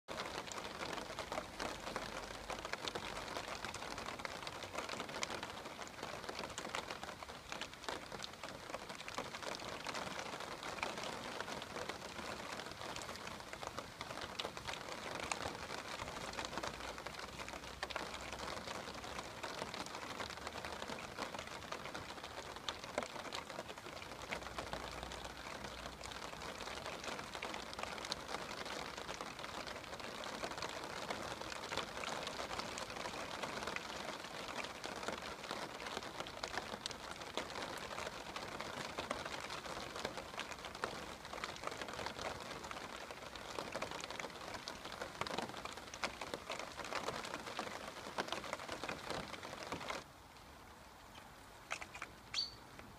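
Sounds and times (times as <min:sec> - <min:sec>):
steady rain falling: 0:00.1 - 0:52.9.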